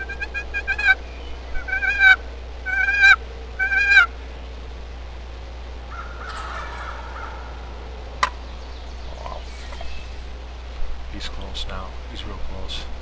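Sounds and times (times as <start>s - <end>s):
distant turkey call: 0.0s - 13.0s
loud turkey calls: 0.0s - 13.0s.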